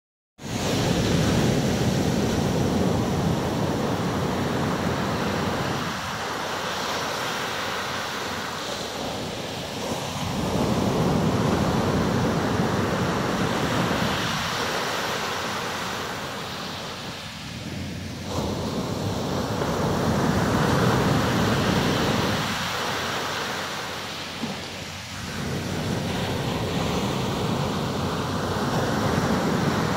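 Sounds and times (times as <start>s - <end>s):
ocean surf breaking on beach: 0.4s - 29.9s.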